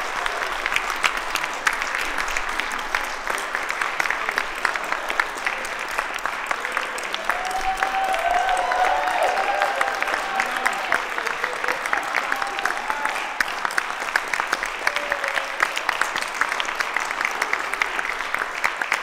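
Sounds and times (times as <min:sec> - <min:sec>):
audience clapping: 0:00.0 - 0:19.0.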